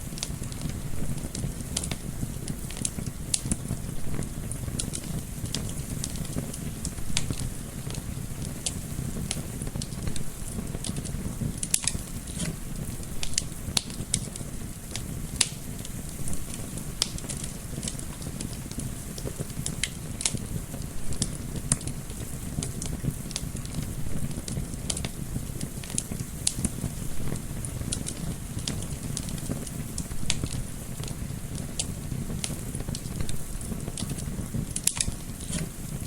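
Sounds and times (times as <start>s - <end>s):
low rumble of flame: 0.0s - 36.0s
wood fire crackling: 0.0s - 36.0s.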